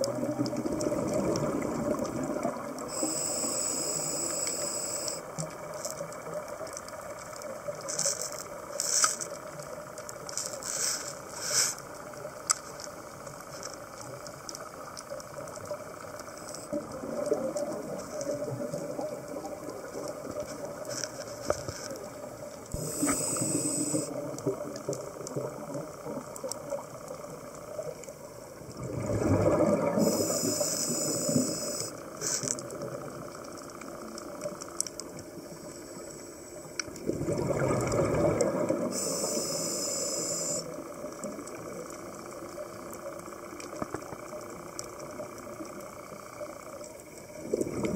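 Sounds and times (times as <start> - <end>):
exhaled bubbles gurgling: 0.0 - 47.9
regulator low hiss: 0.1 - 28.6, 29.8 - 36.9, 38.6 - 47.5.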